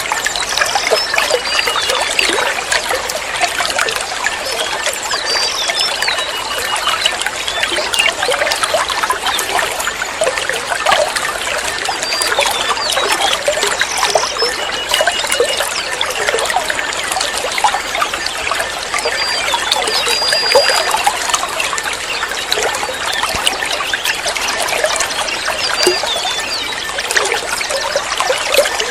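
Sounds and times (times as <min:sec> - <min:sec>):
water trickling and splashing: 0:00.0 - 0:28.9.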